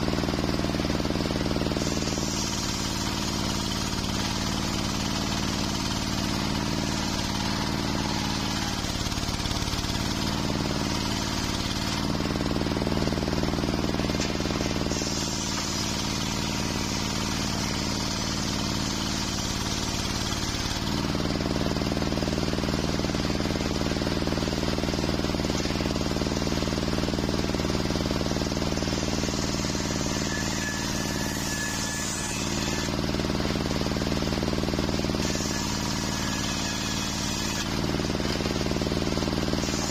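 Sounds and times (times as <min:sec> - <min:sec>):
circular saw cutting wood: 0:00.0 - 0:39.9
saw drive humming: 0:00.0 - 0:39.9.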